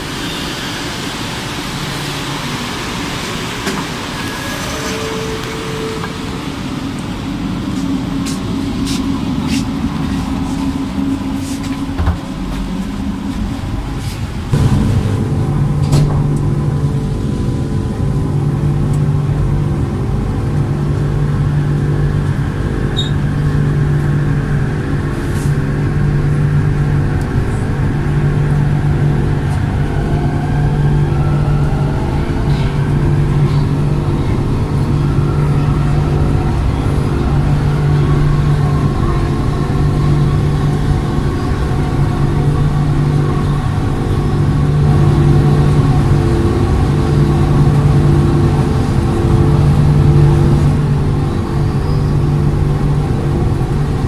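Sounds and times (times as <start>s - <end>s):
train traction motor hum and whine: 0.0s - 54.0s.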